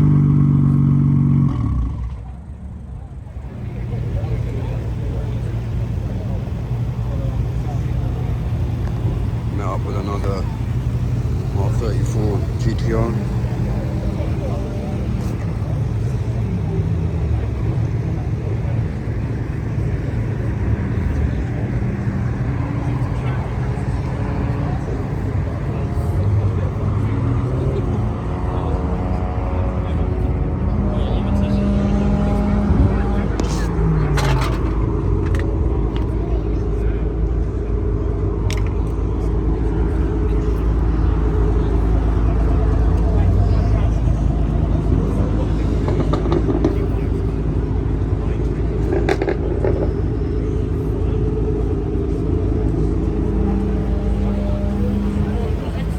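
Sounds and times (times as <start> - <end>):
car engine running: 0.0 - 55.9.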